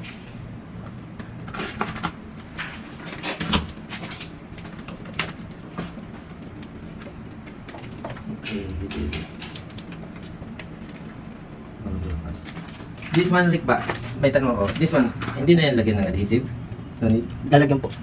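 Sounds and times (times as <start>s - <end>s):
low steady background hum: 0.0s - 18.0s.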